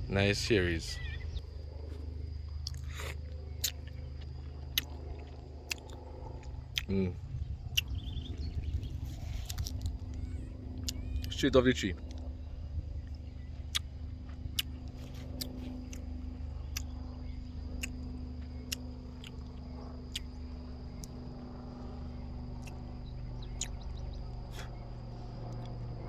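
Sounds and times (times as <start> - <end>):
high-pitched insect drone: 0.0 - 26.0
low steady hum: 0.0 - 26.0.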